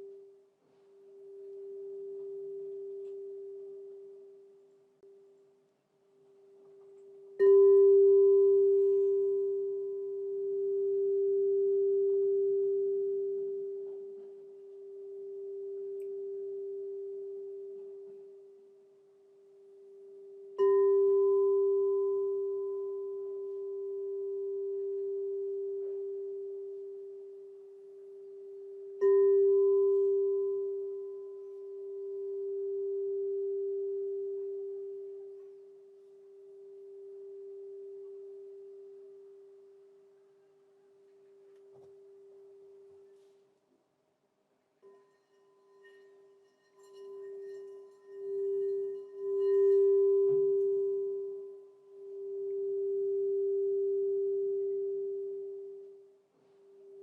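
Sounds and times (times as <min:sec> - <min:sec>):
crystal singing bowl ringing: 0:01.0 - 0:04.7, 0:06.8 - 0:40.1, 0:44.8 - 0:57.0.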